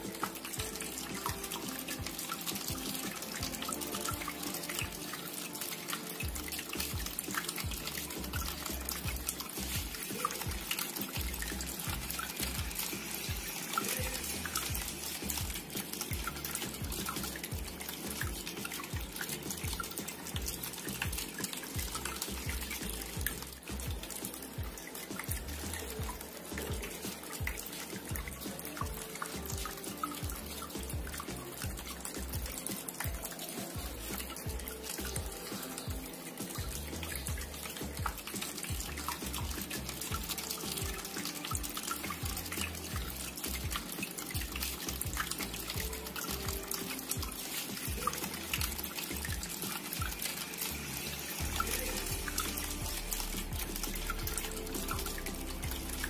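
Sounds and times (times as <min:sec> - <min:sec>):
background music: 0:00.0 - 0:56.0
fountain water trickling: 0:00.0 - 0:56.0.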